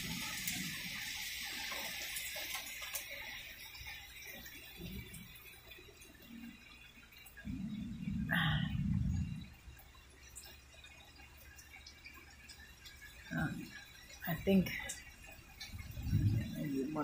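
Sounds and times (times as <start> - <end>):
rain hissing: 0.0 - 17.0
water drips: 0.0 - 17.0.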